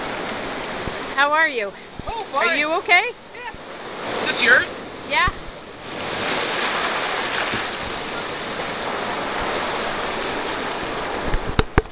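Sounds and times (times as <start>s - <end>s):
surf on a cobble beach: 0.0s - 11.9s.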